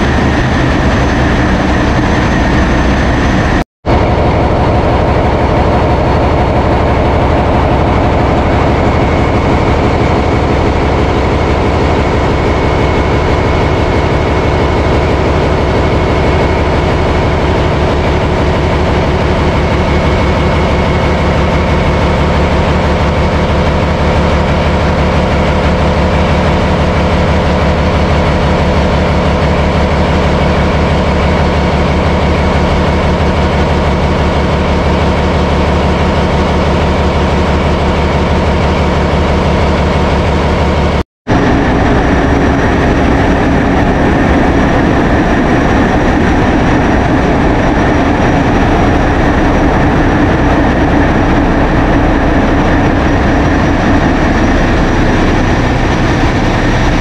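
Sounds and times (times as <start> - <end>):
marine diesel engines droning: 0.0 - 57.0.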